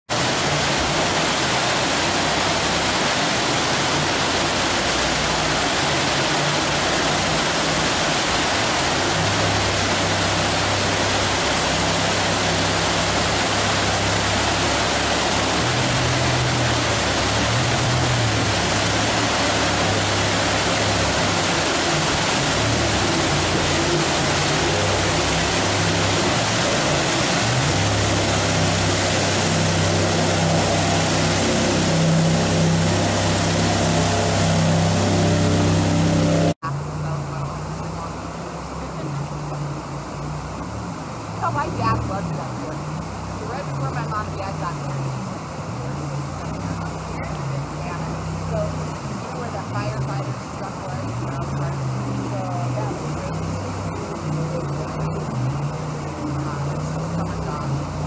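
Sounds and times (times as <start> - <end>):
low hum: 0.1 - 58.0
river rapids roaring: 0.1 - 58.0.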